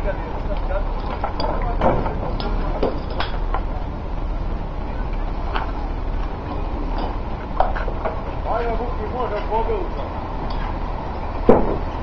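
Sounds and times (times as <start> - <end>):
low rumble and noise: 0.0 - 12.0.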